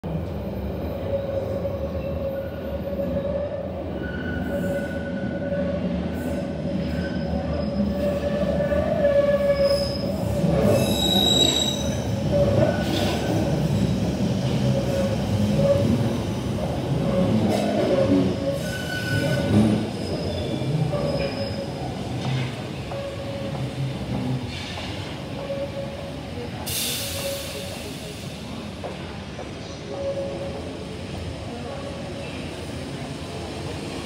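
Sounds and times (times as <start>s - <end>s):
train rumbling: 0.0s - 34.0s
wheels squealing on rails: 0.6s - 31.2s.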